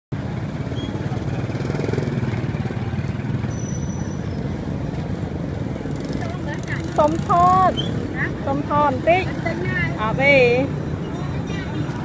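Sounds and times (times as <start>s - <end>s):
motorcycle engine running: 0.2s - 10.8s.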